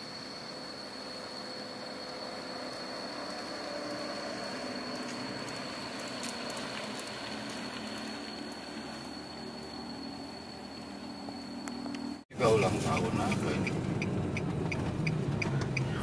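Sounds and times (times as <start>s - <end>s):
outdoor hiss: 0.0s - 13.6s
thin high-pitched whine: 0.0s - 14.1s
van engine driving past: 0.0s - 16.0s.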